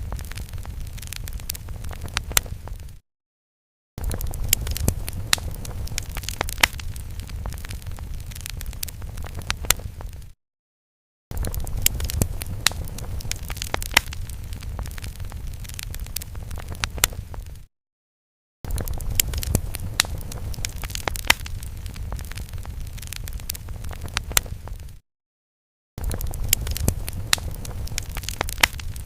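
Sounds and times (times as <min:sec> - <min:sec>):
crackling fire: 0:00.0 - 0:03.0, 0:04.0 - 0:10.4, 0:11.3 - 0:17.7, 0:18.7 - 0:25.0, 0:26.0 - 0:29.0.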